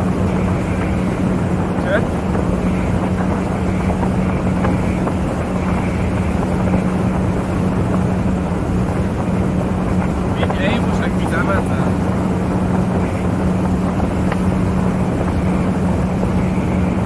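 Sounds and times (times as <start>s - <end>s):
motorboat engine running: 0.0s - 17.0s
wind noise on microphone: 0.0s - 17.0s.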